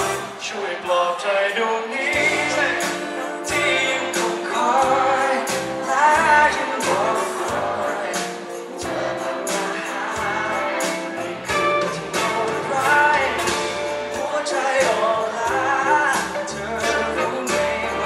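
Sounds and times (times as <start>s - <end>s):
drums: 0.0s - 0.9s, 2.1s - 18.0s
man singing: 0.0s - 18.0s.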